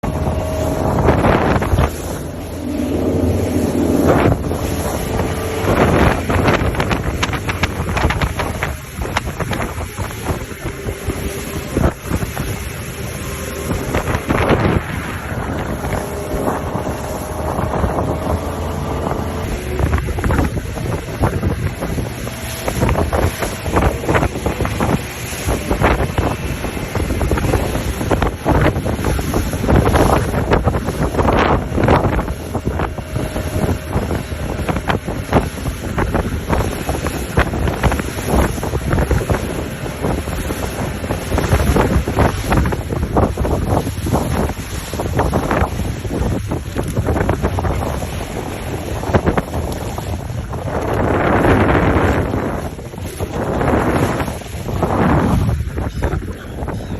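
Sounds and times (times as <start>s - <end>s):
boat engine drone: 0.0s - 56.9s
wind buffeting microphone: 0.0s - 56.9s.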